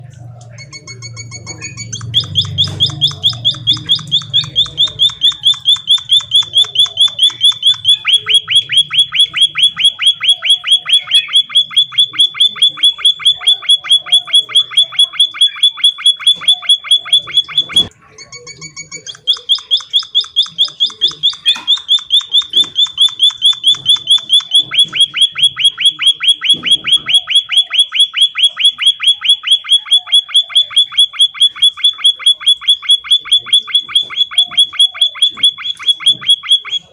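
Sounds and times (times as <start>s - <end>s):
bird chirping rapidly: 0.0s - 36.9s.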